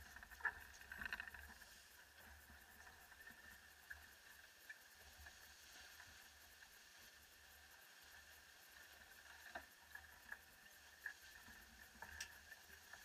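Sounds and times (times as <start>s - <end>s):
hiss of wind and water: 0.0s - 13.0s.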